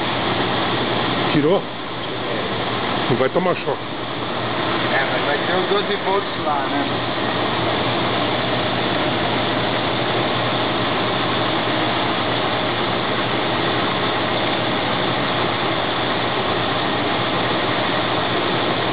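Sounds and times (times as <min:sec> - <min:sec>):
engine running steadily: 0:00.0 - 0:18.9.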